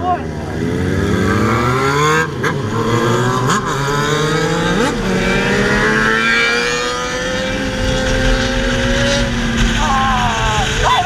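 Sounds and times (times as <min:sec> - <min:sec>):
motorcycle engine accelerating: 0:00.2 - 0:11.0.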